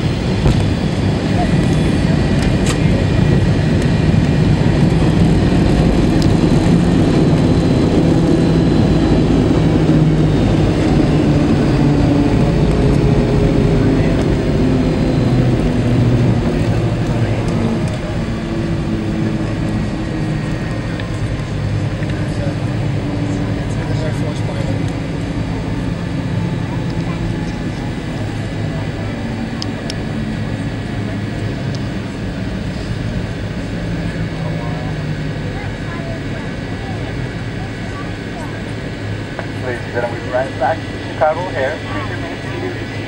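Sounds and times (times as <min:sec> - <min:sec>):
jet engines rumbling: 0:00.0 - 0:43.0.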